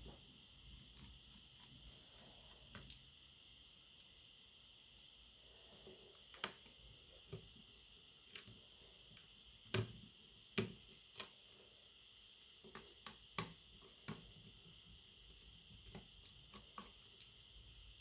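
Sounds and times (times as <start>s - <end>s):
faint high hiss: 0.0s - 18.0s.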